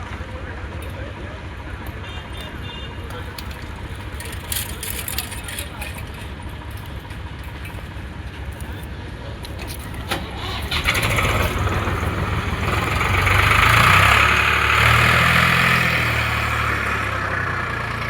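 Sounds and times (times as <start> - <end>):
engine whine: 0.0 - 18.0
tractor diesel engine: 0.0 - 18.0.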